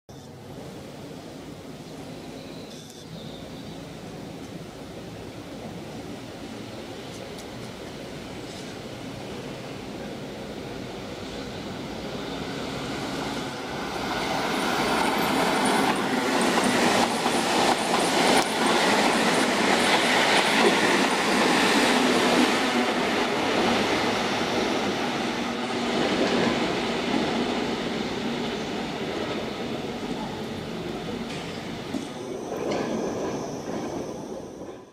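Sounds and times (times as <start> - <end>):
train passing rumble: 0.3 - 34.9.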